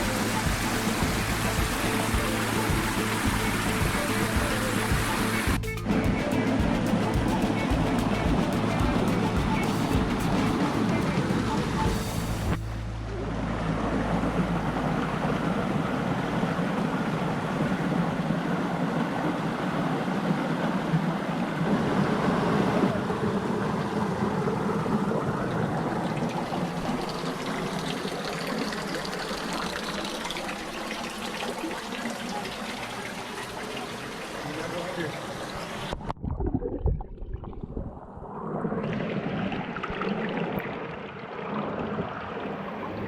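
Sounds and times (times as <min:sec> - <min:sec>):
stream water flowing and splashing: 0:00.0 - 0:43.0.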